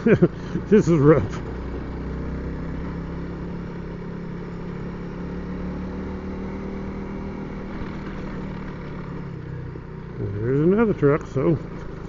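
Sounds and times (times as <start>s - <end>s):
motorcycle engine cruising: 0.0s - 12.0s
road noise: 0.0s - 12.0s.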